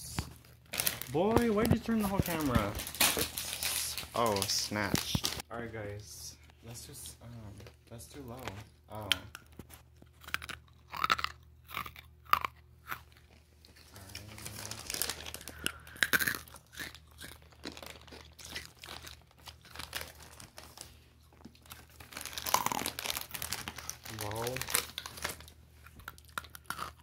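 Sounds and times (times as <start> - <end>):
candy crunching and chewing: 0.1 - 5.4, 8.3 - 27.0.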